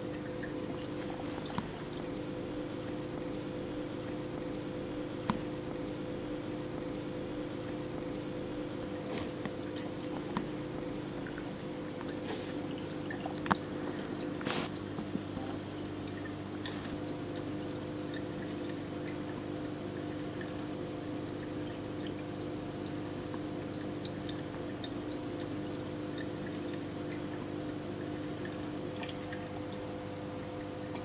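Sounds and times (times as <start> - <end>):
aquarium humming: 0.0 - 31.0
small clicks and watery ticks: 0.0 - 31.0.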